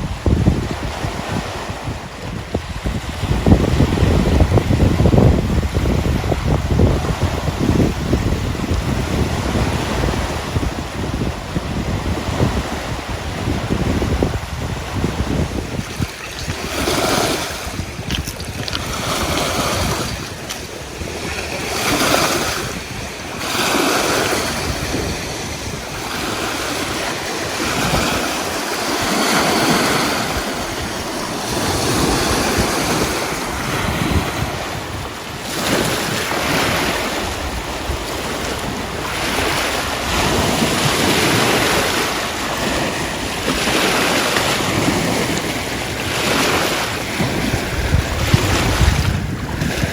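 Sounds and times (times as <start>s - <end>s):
waves washing in: 0.0s - 49.9s
wind on microphone: 0.0s - 49.9s.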